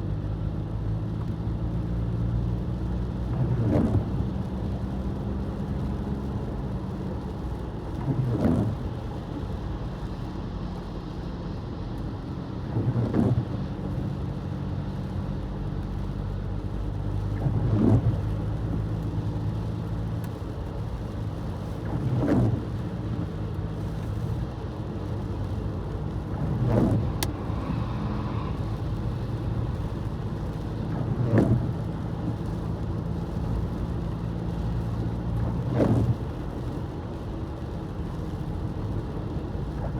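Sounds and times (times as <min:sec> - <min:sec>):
car engine and road hum: 0:00.0 - 0:39.9.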